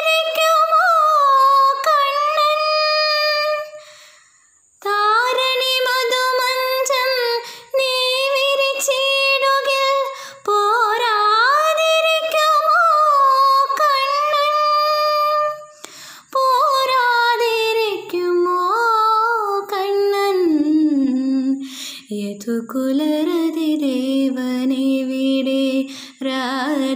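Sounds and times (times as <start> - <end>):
girl singing unaccompanied: 0.0 - 26.9.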